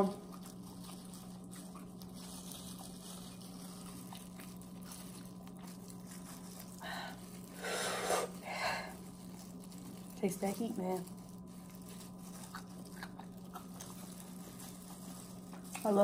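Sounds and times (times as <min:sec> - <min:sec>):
steady low hum: 0:00.0 - 0:16.0
shell cracking and crunching: 0:00.2 - 0:07.6, 0:08.4 - 0:16.0.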